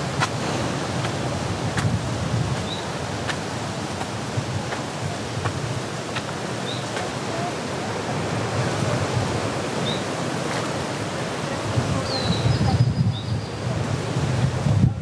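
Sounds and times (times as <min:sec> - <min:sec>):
water rushing: 0:00.0 - 0:15.0
wind rumble on microphone: 0:00.0 - 0:15.0.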